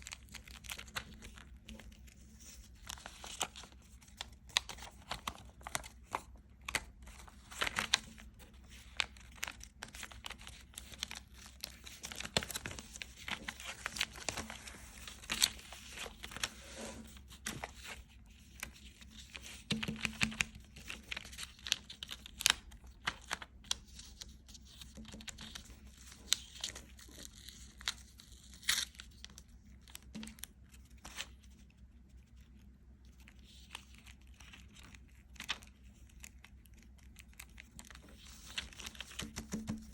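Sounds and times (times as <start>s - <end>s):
crinkling and crackling clicks: 0.0s - 39.9s.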